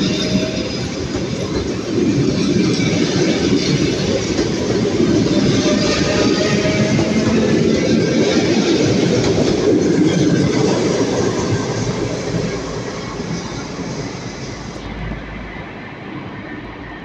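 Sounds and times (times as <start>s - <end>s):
train wheels clattering on rails: 0.0s - 15.9s.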